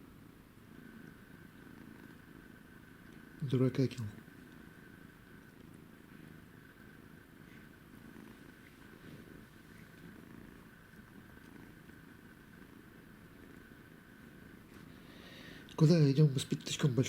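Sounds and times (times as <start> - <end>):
kitten purring: 0.0 - 17.0.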